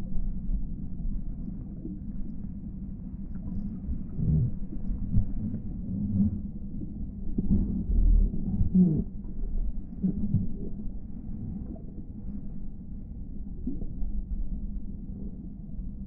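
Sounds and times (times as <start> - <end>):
underwater water rumble: 0.0 - 16.0.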